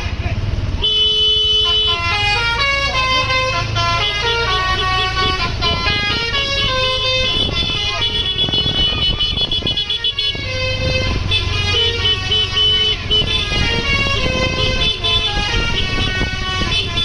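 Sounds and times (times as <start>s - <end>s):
low engine hum: 0.0s - 17.0s
bus horn playing a melody: 0.8s - 17.0s.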